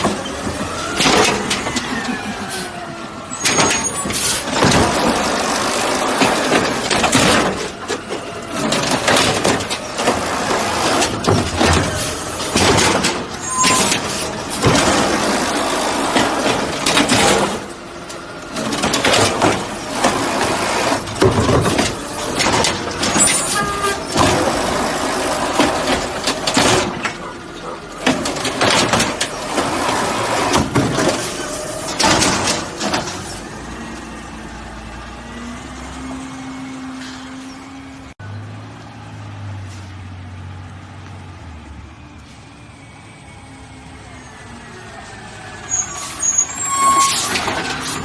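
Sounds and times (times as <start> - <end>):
garbage truck running: 0.0 - 48.0.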